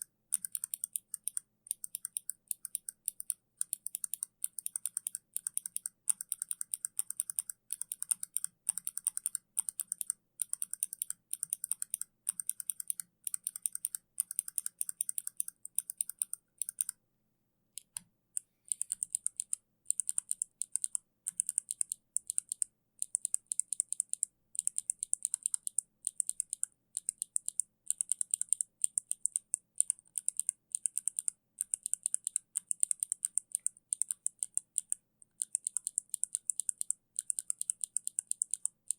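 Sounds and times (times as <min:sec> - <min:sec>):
mechanical keyboard typing: 0:00.0 - 0:17.0, 0:18.7 - 0:38.9.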